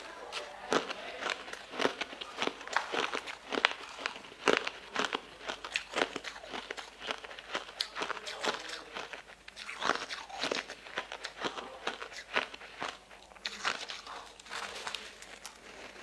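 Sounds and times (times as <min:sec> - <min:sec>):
ice being crunched and chewed: 0:00.0 - 0:16.0.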